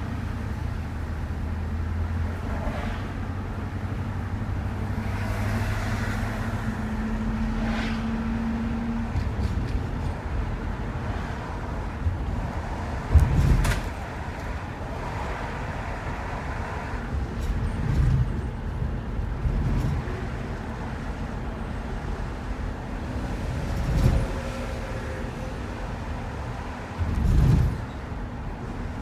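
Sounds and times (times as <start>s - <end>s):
van engine and tyre rumble: 0.0s - 29.0s.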